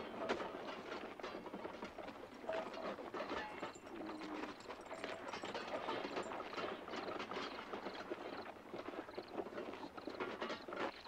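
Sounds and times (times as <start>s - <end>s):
horse hooves clip-clopping on dirt: 0.0s - 11.0s.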